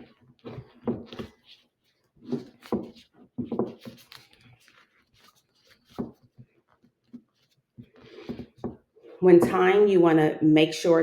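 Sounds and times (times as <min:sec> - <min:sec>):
rubber tourniquet stretching: 0:00.0 - 0:08.9.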